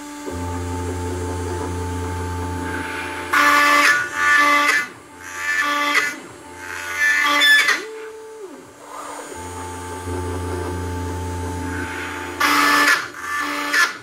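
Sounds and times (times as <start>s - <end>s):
motors whining up and down: 0.0s - 14.0s
router spindle cutting plywood: 0.0s - 14.0s
steady motor hum: 0.0s - 14.0s.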